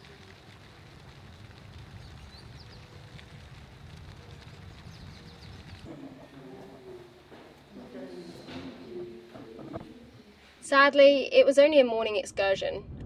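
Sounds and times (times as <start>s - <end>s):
steady low rumble: 0.0s - 10.3s, 12.3s - 13.0s.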